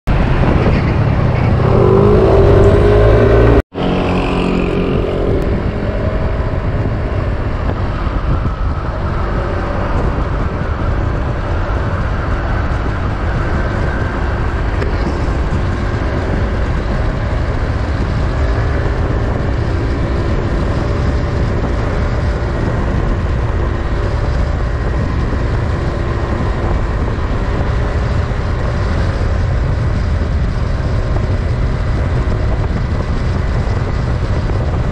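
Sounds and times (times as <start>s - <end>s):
wind rumble: 0.1s - 34.9s
scooter engine running: 0.6s - 34.9s.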